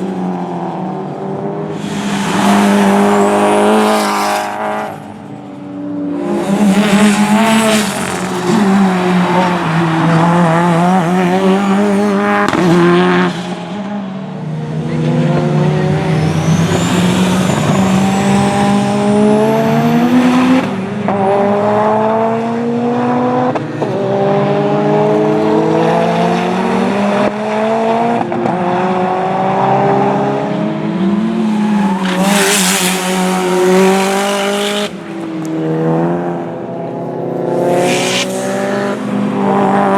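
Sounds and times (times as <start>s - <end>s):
race car engine shifting gears: 0.0s - 14.0s, 14.6s - 36.8s, 37.4s - 39.9s.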